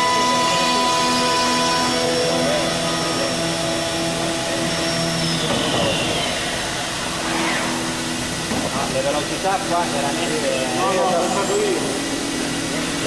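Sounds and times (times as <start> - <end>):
machine running with high whines: 0.0 - 13.0.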